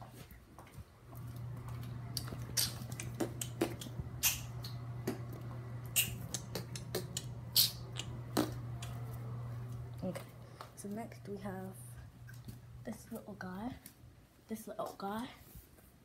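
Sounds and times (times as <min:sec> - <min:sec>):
steady low hum: 0:00.8 - 0:14.4.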